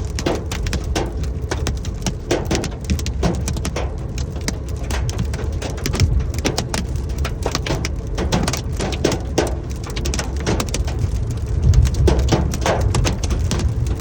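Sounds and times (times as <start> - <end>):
hailstones pelting down: 0.0 - 14.0
steady low rumble: 0.0 - 14.0.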